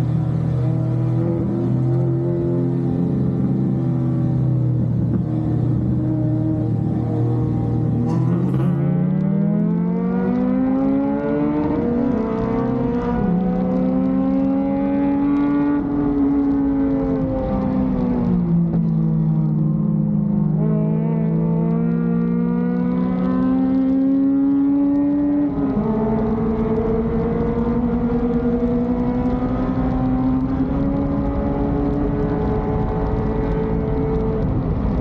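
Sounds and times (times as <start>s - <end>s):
race car engine accelerating: 5.0s - 18.8s, 20.5s - 35.0s.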